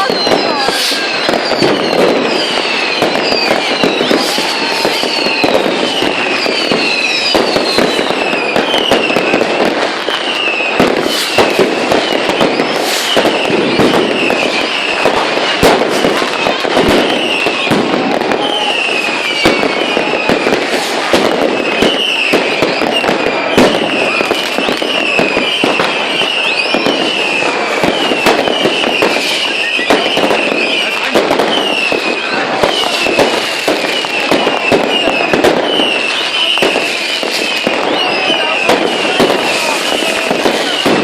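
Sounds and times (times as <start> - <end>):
falling firework whistles: 0.0 - 41.0
fireworks banging and crackling: 0.0 - 41.0.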